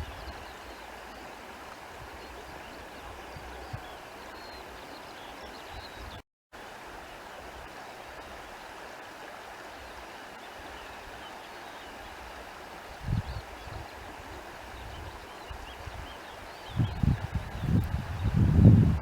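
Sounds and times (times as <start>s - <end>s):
stream running water: 0.0s - 19.0s.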